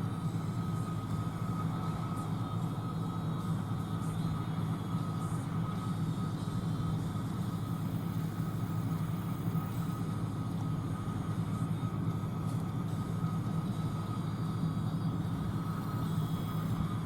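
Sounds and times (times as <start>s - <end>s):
combine engine drone: 0.0s - 17.0s
thin steady whine: 0.0s - 17.0s.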